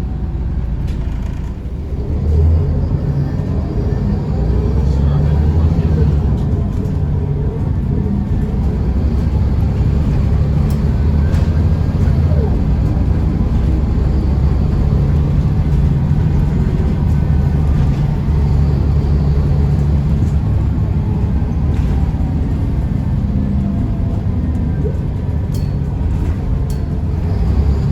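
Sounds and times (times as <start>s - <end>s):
bus diesel engine droning: 0.0s - 27.9s.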